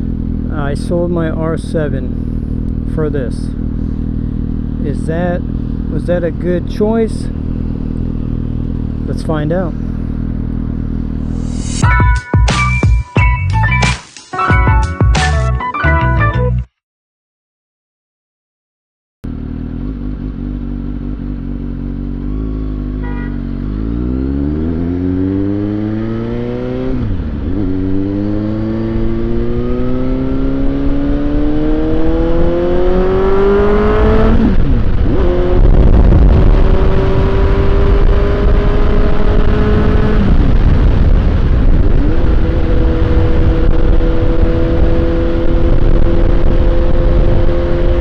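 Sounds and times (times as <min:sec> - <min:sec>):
motorcycle engine accelerating: 0:00.0 - 0:11.9, 0:19.2 - 0:48.0.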